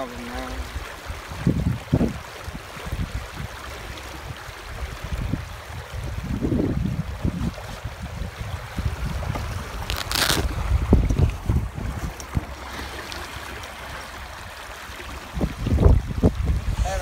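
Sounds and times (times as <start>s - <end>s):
water splashing against canoe: 0.0s - 16.7s
wind rumbling on microphone: 0.0s - 17.0s.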